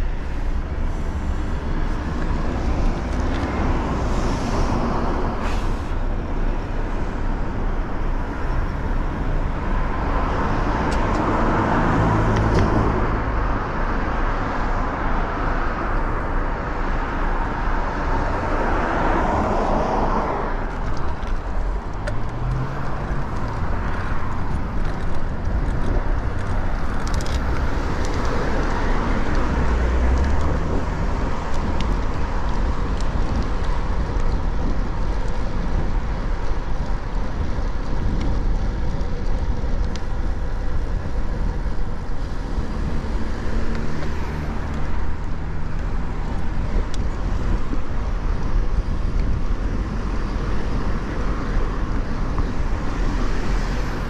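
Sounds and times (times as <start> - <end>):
cars passing: 0.0 - 54.0
steady rushing noise: 0.0 - 54.0.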